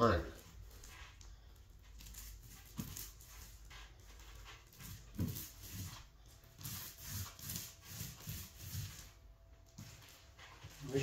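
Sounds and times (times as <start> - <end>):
paint roller squelching on plaster: 0.2 - 11.0.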